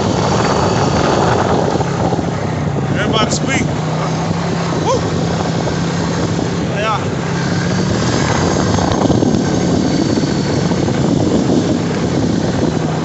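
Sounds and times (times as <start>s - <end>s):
atv engine droning: 0.0s - 13.0s
steady rushing noise: 0.0s - 13.0s.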